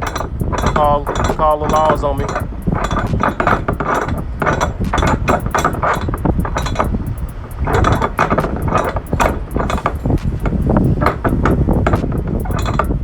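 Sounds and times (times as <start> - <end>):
metallic clinking and rattling: 0.0 - 13.0
steady low rumble: 0.0 - 13.0.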